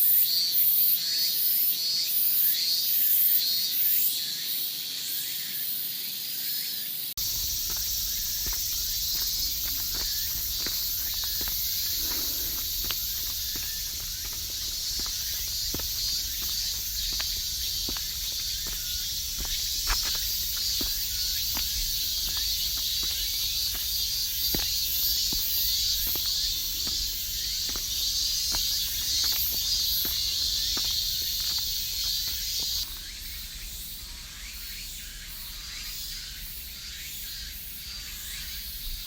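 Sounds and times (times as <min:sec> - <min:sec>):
cicadas singing: 0:00.0 - 0:39.0.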